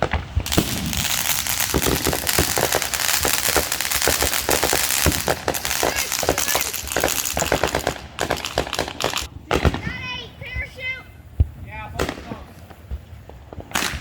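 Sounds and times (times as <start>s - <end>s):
fireworks crackling and popping: 0.0s - 14.0s.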